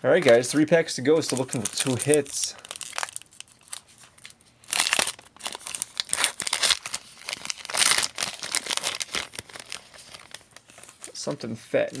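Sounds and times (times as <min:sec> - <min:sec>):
foil wrapper crinkling and tearing: 0:00.2 - 0:11.3.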